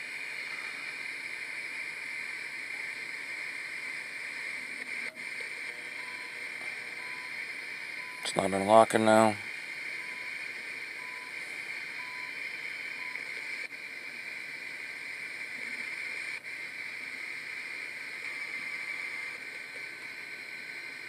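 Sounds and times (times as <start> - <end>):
hissing radio static: 0.0 - 21.0.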